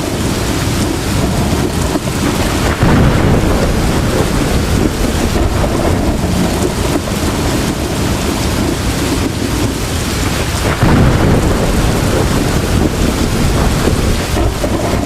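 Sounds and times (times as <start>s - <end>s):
heavy rain: 0.0s - 15.0s
rolling thunder rumble: 0.0s - 15.0s.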